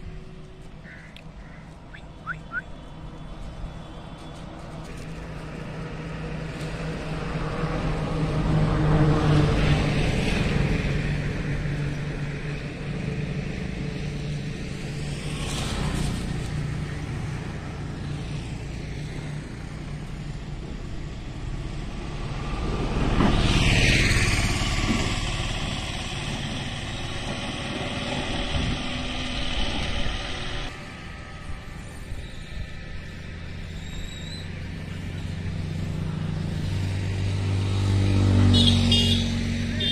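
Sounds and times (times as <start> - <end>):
vehicle passing: 4.2 - 39.9.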